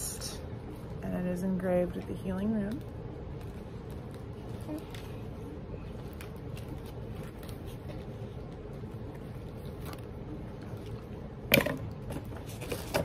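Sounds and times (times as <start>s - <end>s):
low room rumble: 0.0s - 13.0s
rustles and clicks of handling: 0.5s - 13.0s.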